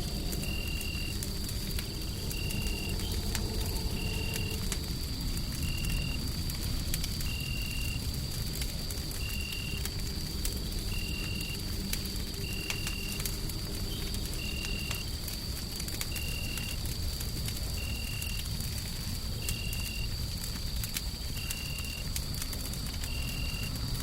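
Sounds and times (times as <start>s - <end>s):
deep white-noise rumble: 0.0s - 24.0s
wood fire crackling: 0.0s - 24.0s.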